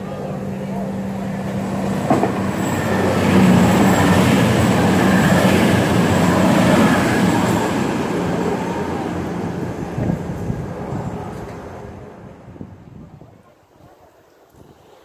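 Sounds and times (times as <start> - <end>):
diesel train engine passing: 0.0 - 12.9.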